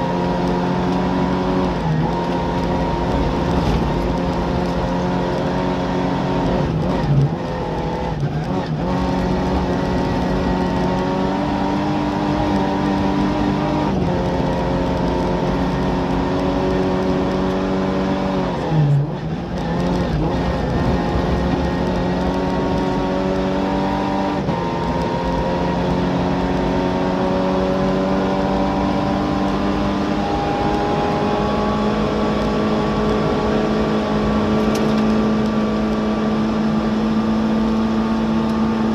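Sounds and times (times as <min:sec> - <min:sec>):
rally car engine at high revs: 0:00.0 - 0:38.9
tyre and road noise: 0:00.0 - 0:38.9.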